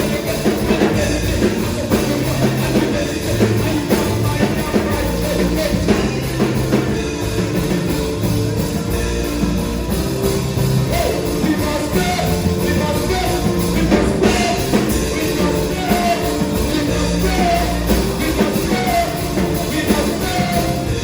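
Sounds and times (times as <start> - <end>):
gospel band music: 0.0 - 21.0.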